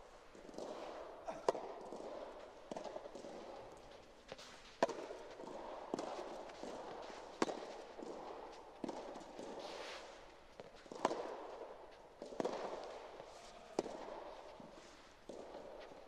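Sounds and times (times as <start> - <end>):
racket striking tennis ball: 0.4 - 16.0.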